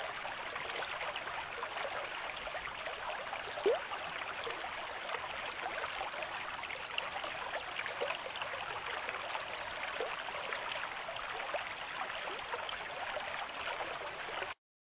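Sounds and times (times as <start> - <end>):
stream of water flowing: 0.0 - 14.6.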